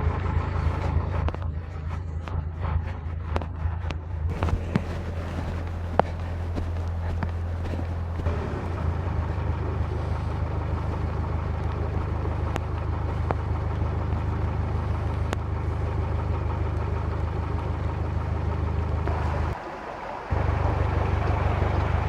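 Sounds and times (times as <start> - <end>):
diesel engine humming: 4.3 - 22.0.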